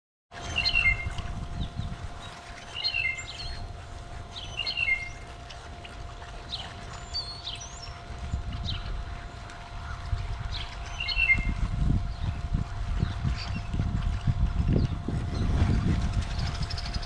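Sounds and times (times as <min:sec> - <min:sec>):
low steady rumble: 0:00.3 - 0:17.0
blackbirds calling: 0:00.4 - 0:17.0.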